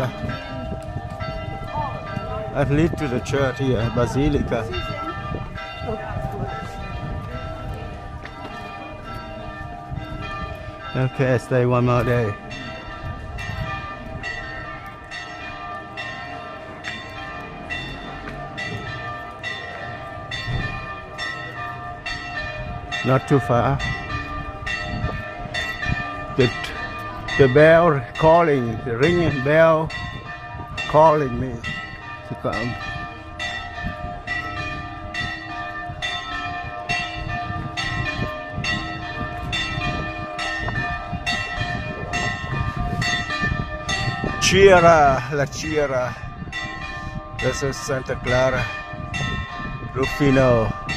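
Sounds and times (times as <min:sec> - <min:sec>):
church bell ringing: 0:00.0 - 0:50.9.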